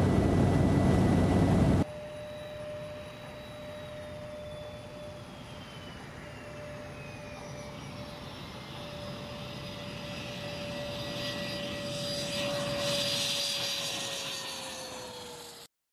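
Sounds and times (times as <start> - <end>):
jet engines whining: 0.0 - 15.7.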